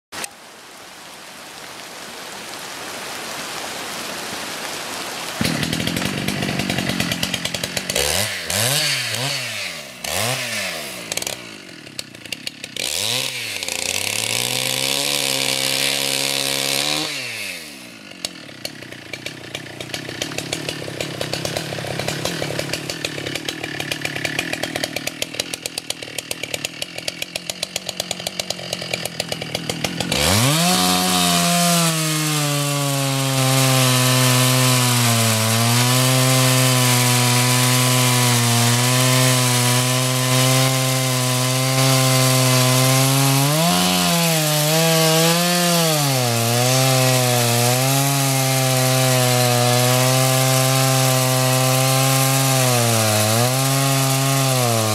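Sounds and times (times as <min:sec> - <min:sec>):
chainsaw cutting wood: 0:05.3 - 0:54.9.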